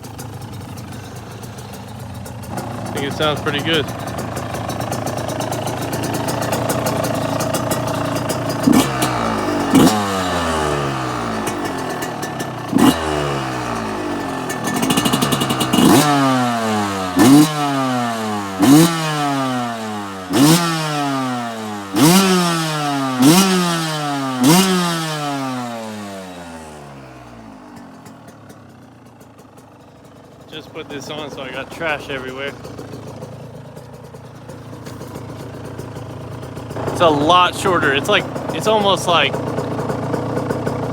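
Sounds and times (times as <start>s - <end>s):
dirt bike engine revving: 0.0s - 28.6s, 30.2s - 40.9s.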